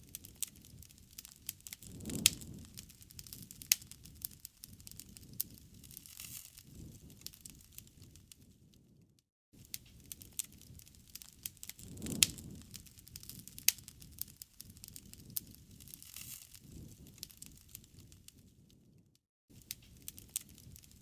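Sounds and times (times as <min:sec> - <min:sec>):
fire popping: 0:00.0 - 0:21.0
wood fire crackling: 0:00.0 - 0:21.0.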